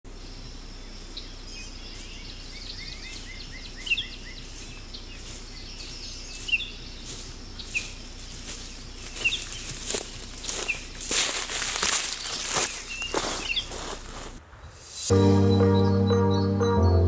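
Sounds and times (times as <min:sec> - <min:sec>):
steady background hiss: 0:00.1 - 0:15.4
birds chirping: 0:00.1 - 0:17.0.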